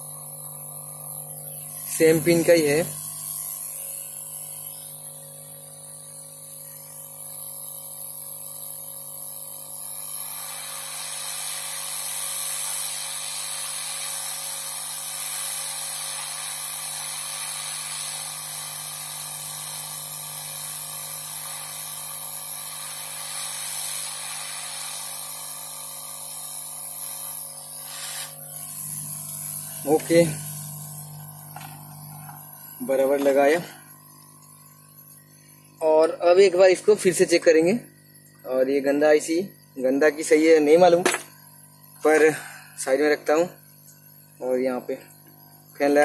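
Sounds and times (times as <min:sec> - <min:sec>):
hot air gun hissing: 0:00.0 - 0:46.0.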